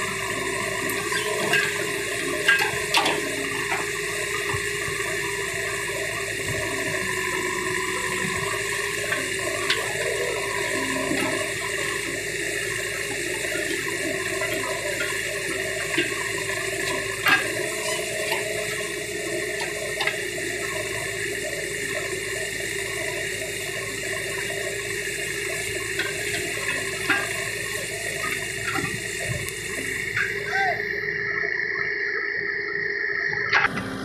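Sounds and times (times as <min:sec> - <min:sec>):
backhoe loader running: 0:00.0 - 0:34.0.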